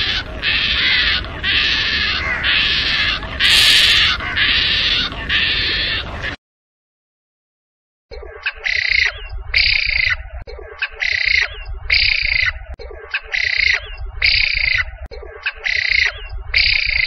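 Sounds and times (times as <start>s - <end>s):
bird calling: 0.0s - 6.4s, 8.1s - 17.0s.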